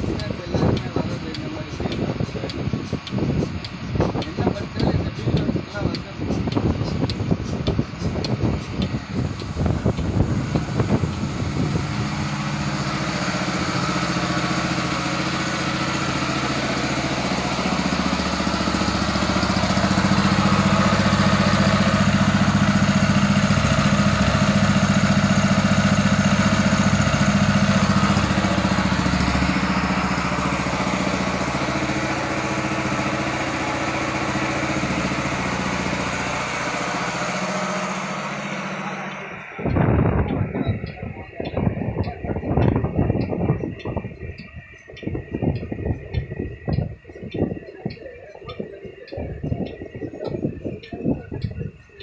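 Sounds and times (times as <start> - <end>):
vacuum pump droning: 0.0 - 52.0.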